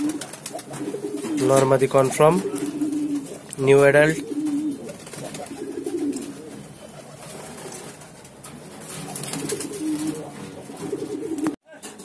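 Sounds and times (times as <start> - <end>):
pigeons cooing: 0.0 - 11.6.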